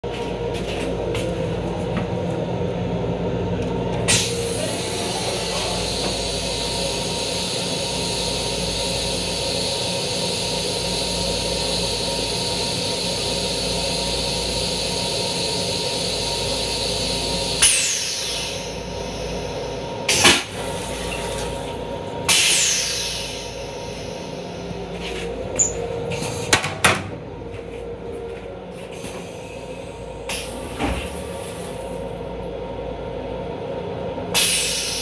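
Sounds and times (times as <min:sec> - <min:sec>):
constant hum: 0:00.0 - 0:35.0
electric railcar running: 0:00.1 - 0:35.0.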